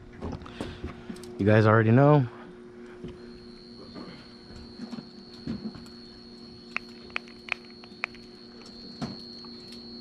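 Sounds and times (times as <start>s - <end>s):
steady low hum: 0.0s - 10.0s
high-pitched whine: 1.4s - 10.0s.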